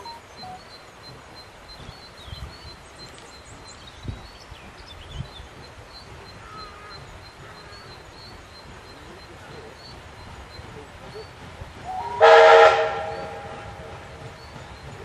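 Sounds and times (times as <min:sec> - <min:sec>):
small birds chirping: 0:00.0 - 0:12.2, 0:12.9 - 0:15.0
outdoor hiss: 0:00.0 - 0:15.0.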